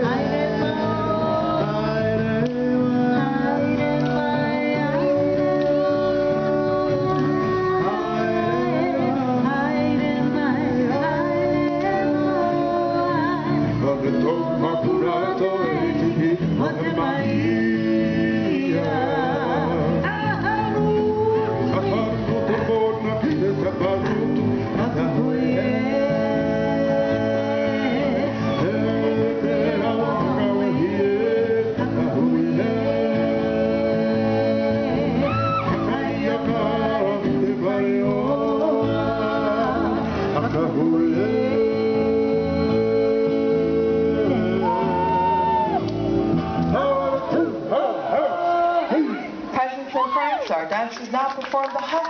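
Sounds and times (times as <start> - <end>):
voices singing with instruments: 0.0 - 49.5.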